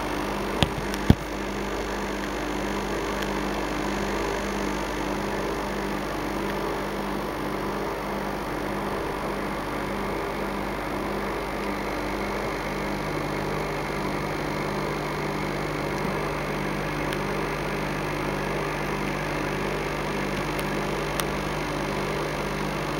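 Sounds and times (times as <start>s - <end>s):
electrical hum with pulsing buzz: 0.0s - 22.9s.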